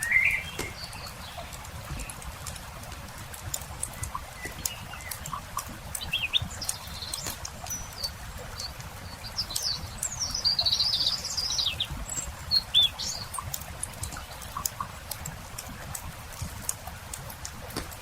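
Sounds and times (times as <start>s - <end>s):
campfire crackling: 0.0s - 18.0s
songbirds chirping: 0.0s - 18.0s
warbling bird song: 0.0s - 18.0s.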